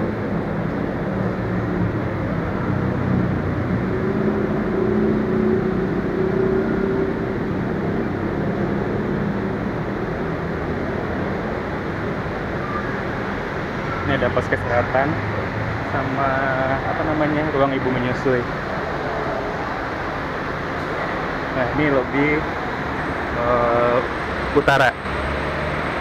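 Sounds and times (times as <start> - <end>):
indistinct murmur: 0.0 - 26.0
rumble of station hall: 0.0 - 26.0.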